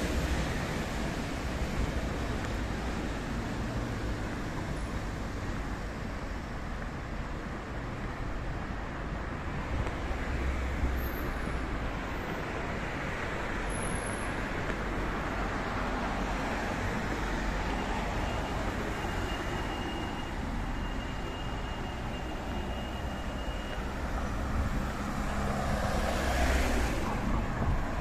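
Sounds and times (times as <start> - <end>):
cars passing on busy street: 0.0 - 28.0.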